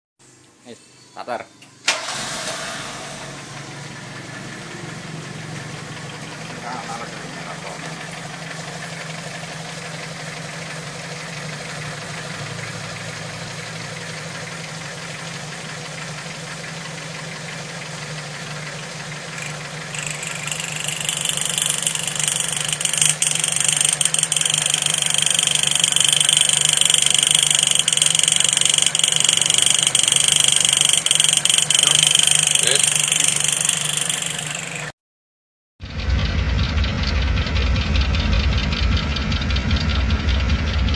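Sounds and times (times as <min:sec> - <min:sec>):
car engine idling: 0:01.9 - 0:34.9, 0:35.8 - 0:40.9.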